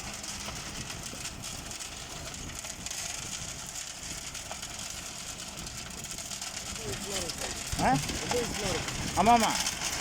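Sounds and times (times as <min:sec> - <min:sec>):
concrete mixer churning: 0:00.0 - 0:10.0
tractor engine rumble: 0:00.0 - 0:10.0.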